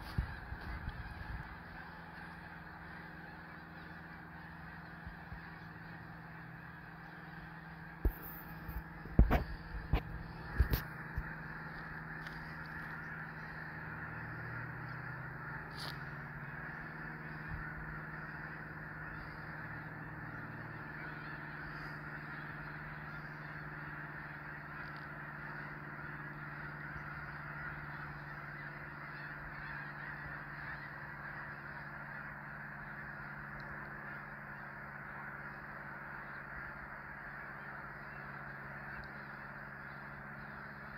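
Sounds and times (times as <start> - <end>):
geese honking: 0.0 - 40.9.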